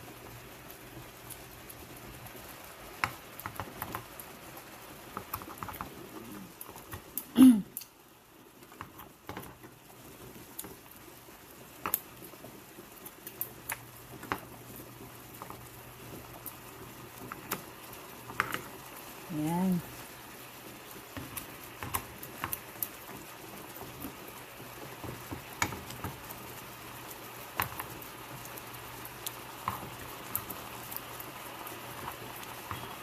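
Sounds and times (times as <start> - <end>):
sausages boiling and popping: 0.0 - 33.0.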